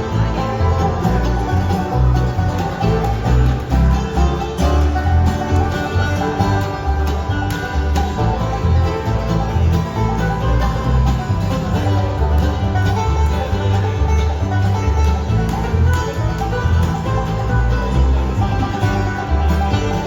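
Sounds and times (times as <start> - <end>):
banjo picking: 0.0 - 20.0
bass line: 0.0 - 20.0
guitar picking: 0.0 - 20.0.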